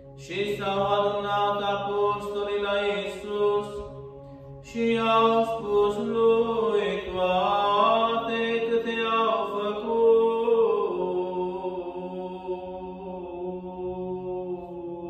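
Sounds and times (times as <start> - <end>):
chanted singing: 0.1 - 3.9, 4.6 - 15.0.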